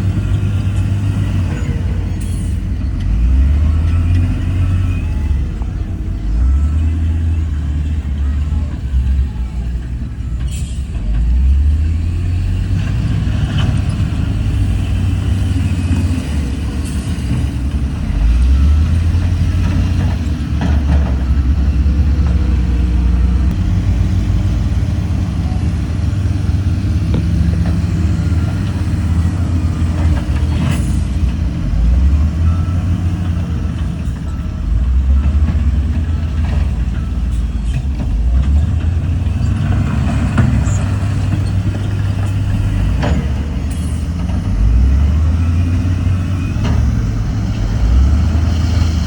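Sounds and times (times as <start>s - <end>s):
heavy diesel engine under load: 0.0s - 49.0s.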